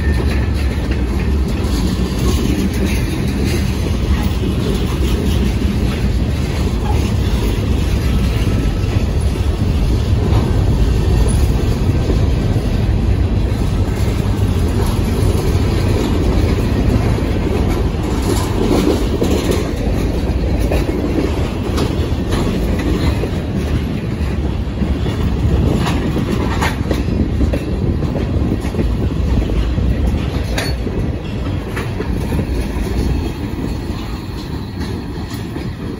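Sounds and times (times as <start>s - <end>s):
clickety-clack over rail joints: 0.0s - 35.9s
train wheels rumbling on rails: 0.0s - 35.9s.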